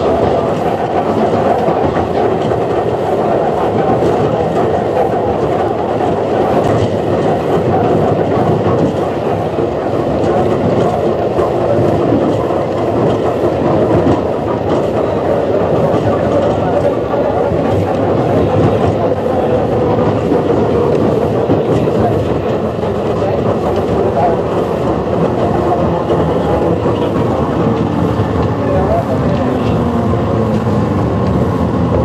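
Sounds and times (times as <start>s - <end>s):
electric train rumbling: 0.0s - 32.0s
wheels clicking over rail joints: 0.0s - 32.0s.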